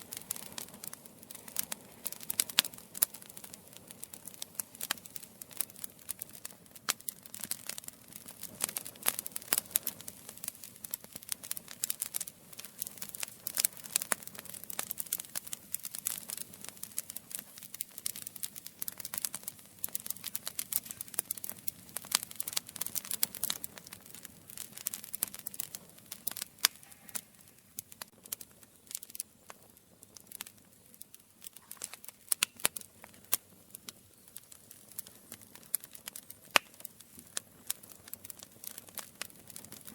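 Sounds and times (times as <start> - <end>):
low rush of flame: 0.0 - 39.9
wood crackling and popping: 0.0 - 39.9.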